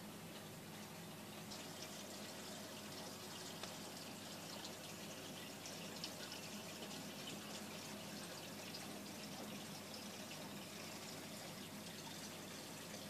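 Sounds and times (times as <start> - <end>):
aquarium water trickling: 0.0 - 13.0
pump hum: 0.0 - 13.0.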